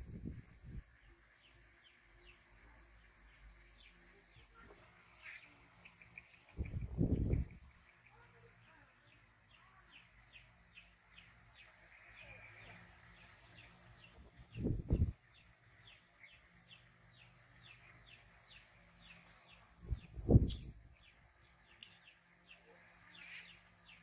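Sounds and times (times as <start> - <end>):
bird chirping: 1.0 - 24.0.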